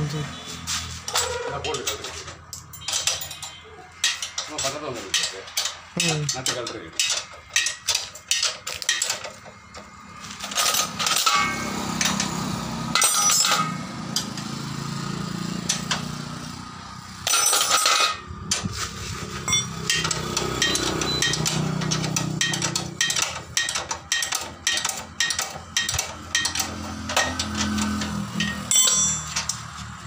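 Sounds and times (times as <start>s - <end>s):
metal tools clinking: 1.0s - 14.3s, 17.2s - 30.0s.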